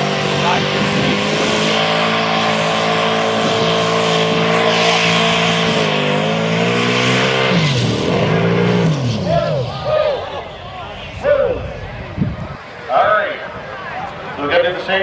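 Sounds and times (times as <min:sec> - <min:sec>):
truck engine at high revs: 0:00.0 - 0:13.3.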